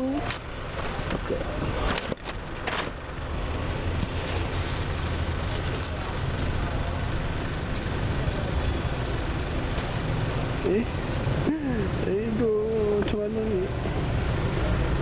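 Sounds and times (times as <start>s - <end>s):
road traffic rumble: 0.0s - 15.0s
plastic bag rustling: 1.7s - 15.0s.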